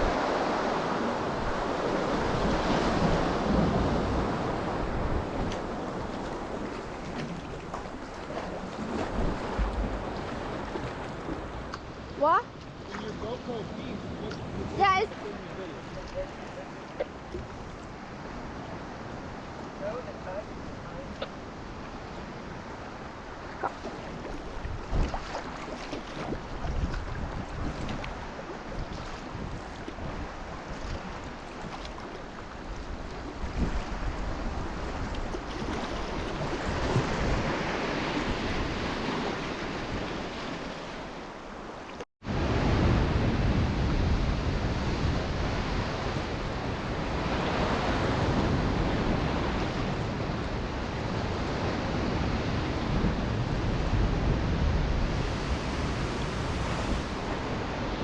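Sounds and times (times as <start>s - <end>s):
ocean waves washing: 0.0s - 58.0s
wind buffeting microphone: 0.0s - 58.0s.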